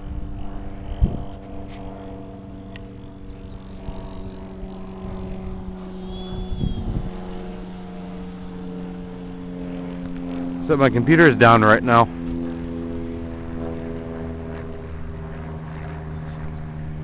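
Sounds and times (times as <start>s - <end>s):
model airplane motor running: 0.0s - 17.0s
wind buffeting microphone: 0.0s - 17.0s.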